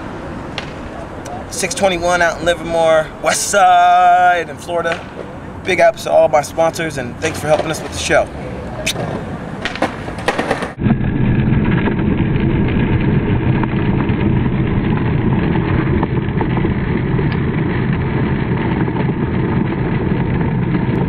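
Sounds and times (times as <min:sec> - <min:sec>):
loud mechanical rumble: 0:00.0 - 0:21.0.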